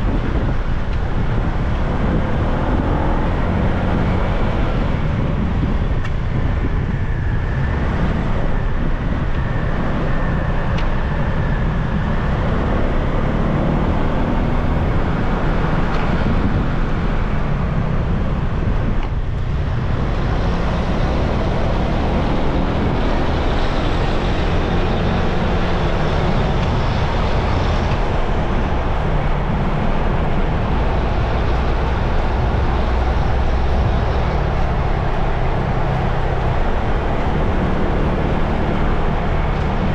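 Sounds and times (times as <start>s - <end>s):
motorbike engine and road noise: 0.0s - 39.9s
other vehicles passing: 0.0s - 39.9s.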